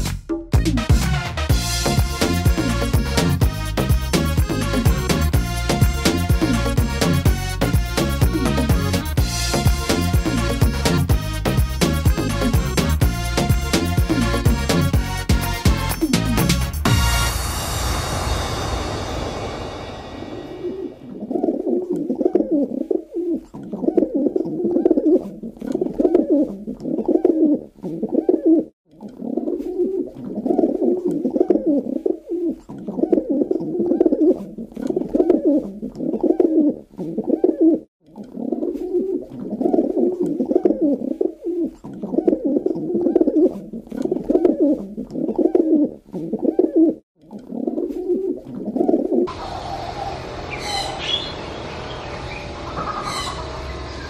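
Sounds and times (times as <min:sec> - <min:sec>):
pigeons cooing: 0:02.2 - 0:15.0, 0:20.5 - 0:54.0.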